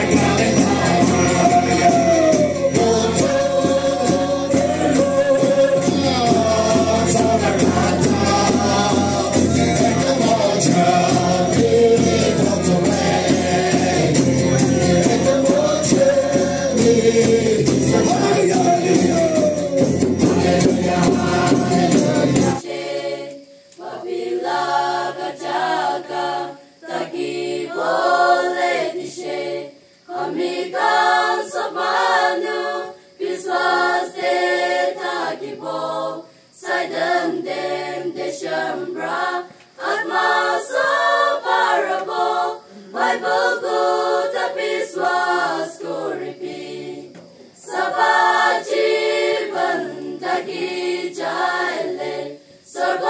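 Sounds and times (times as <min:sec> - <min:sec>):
choir singing a hymn a cappella: 0:00.0 - 0:53.0.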